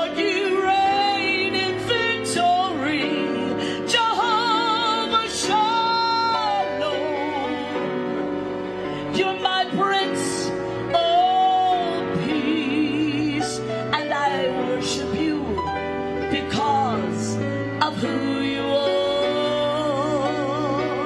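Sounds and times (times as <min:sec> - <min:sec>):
instrumental backing music: 0:00.0 - 0:21.0
woman singing into microphone: 0:00.0 - 0:21.0.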